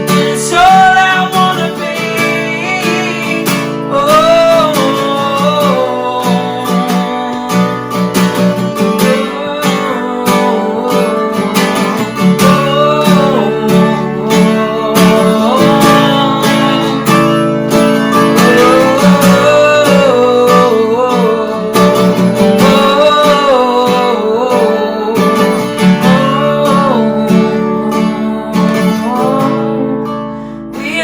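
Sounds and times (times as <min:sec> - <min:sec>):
acoustic guitar strumming: 0:00.0 - 0:31.0
person singing: 0:00.0 - 0:31.0.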